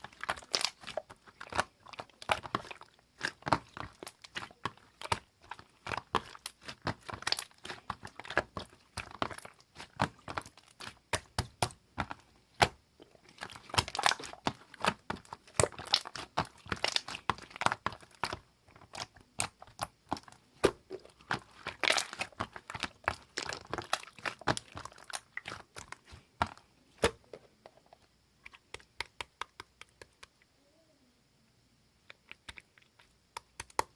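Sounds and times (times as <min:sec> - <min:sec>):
slime squished by hand: 0:00.0 - 0:27.3.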